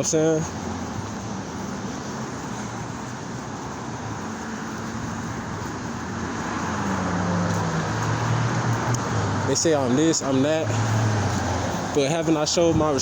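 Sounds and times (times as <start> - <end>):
road traffic rush: 0.0 - 13.0
vehicle engine hum: 0.0 - 13.0.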